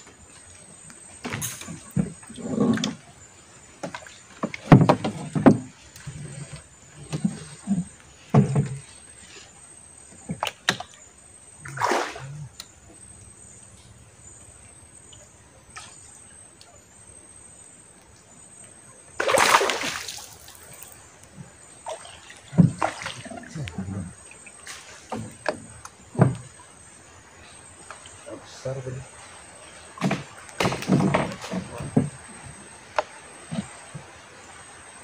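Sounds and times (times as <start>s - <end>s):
water splashing beside boat: 0.0s - 35.0s.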